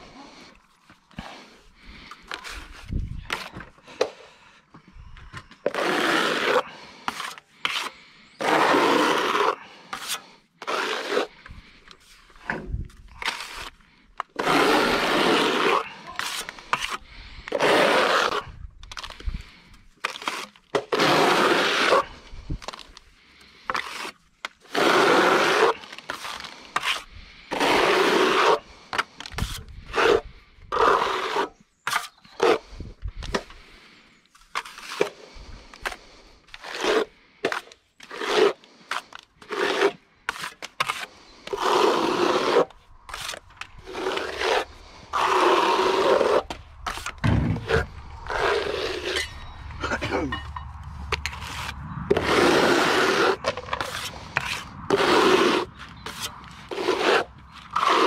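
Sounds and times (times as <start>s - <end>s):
steel trowel scraping render: 5.6s - 33.5s, 34.3s - 58.0s.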